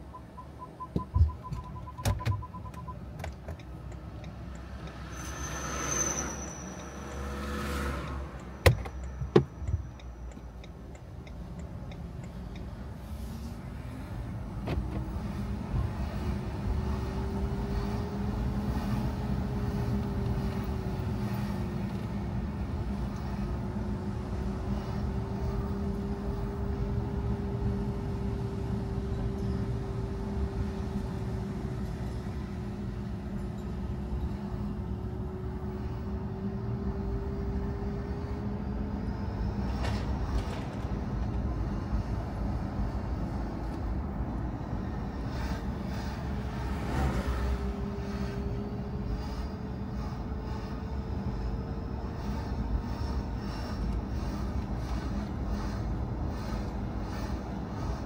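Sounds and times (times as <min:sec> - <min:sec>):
car engine hum: 0:00.0 - 0:58.0
road rumble: 0:00.0 - 0:58.0.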